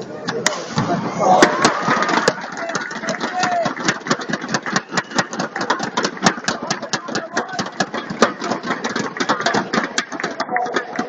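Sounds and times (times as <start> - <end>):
crowd chatter: 0.0 - 11.0
crowd clapping: 1.4 - 11.0.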